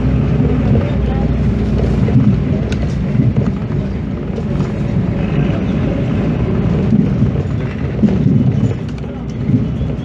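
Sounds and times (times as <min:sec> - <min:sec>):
bus engine running: 0:00.0 - 0:10.0
road noise: 0:00.0 - 0:10.0.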